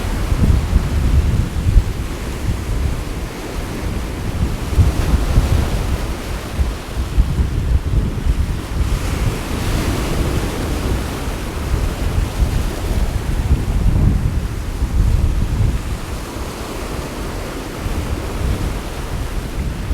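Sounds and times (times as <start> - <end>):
sea waves washing in: 0.0 - 19.9
wind buffeting the microphone: 0.0 - 19.9.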